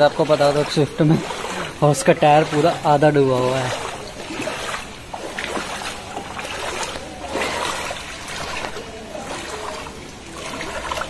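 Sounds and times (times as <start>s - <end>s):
wading through water splashing: 0.0s - 11.0s.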